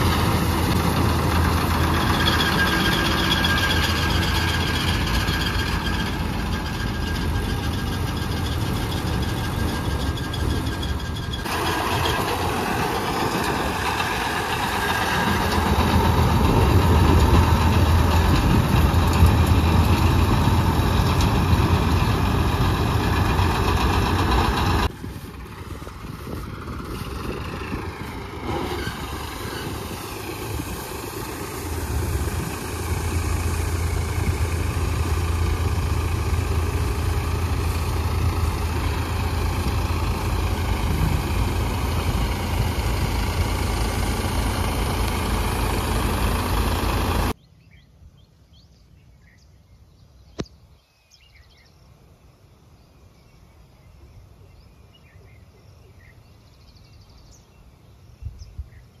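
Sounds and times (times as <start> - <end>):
combine harvester running: 0.0 - 47.4.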